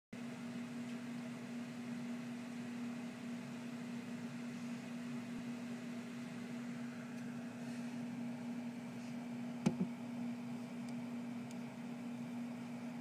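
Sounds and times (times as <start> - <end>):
low hum: 0.5 - 13.0.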